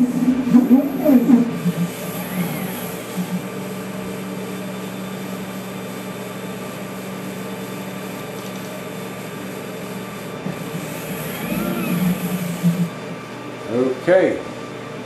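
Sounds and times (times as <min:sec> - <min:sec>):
motors humming: 0:00.0 - 0:13.5.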